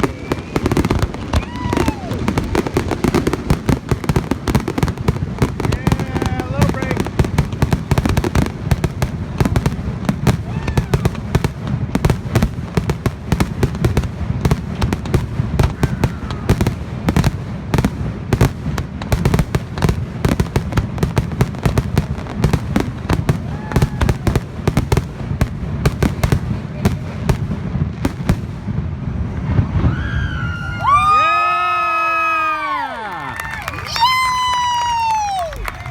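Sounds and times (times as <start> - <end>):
fireworks bursting: 0.0 - 35.9.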